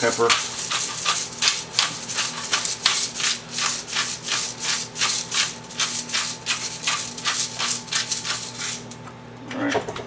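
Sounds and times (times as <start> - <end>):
pepper mill grinding: 0.0 - 9.0.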